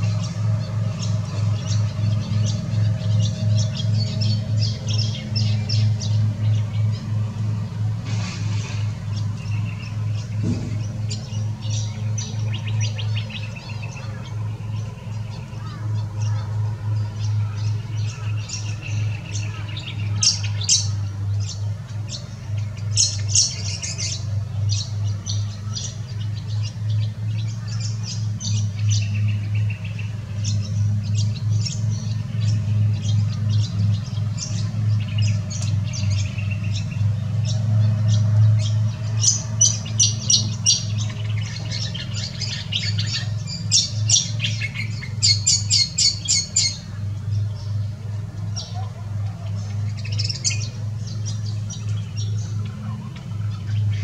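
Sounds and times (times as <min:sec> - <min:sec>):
birds chirping and squawking: 0:00.0 - 0:54.0
steady low hum: 0:00.0 - 0:54.0.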